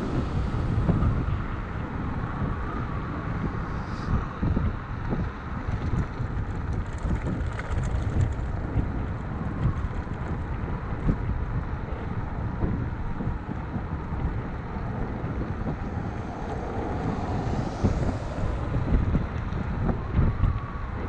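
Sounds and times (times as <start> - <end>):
road rumble: 0.0 - 21.0
wind buffeting microphone: 0.0 - 21.0.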